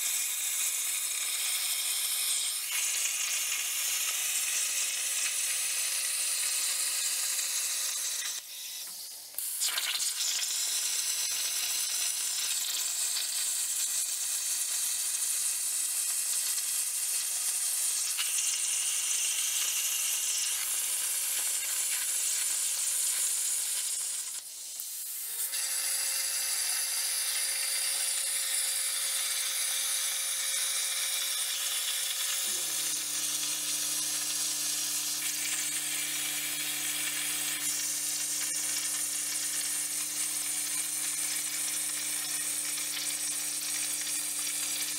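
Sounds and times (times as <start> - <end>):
plasma arc hissing: 0.0 - 44.9.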